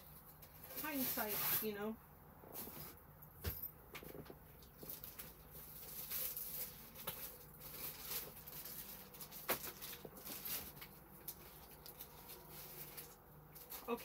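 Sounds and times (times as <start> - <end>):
paper and plastic rustling: 0.0 - 1.8, 4.0 - 14.0.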